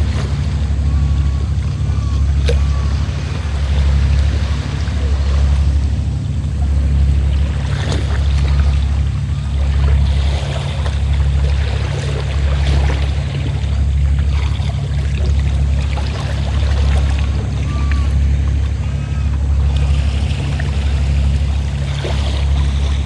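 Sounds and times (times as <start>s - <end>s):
boat engine humming: 0.0s - 23.0s
water splashing against hull: 0.0s - 23.0s.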